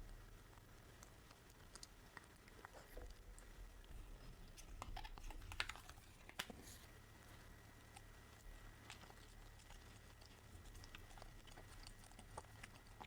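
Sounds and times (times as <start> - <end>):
eating clicks and crackles: 0.0 - 13.0.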